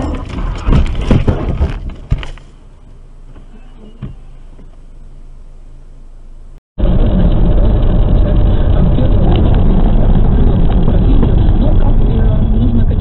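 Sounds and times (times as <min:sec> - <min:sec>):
road and engine noise in car: 0:01.7 - 0:13.0.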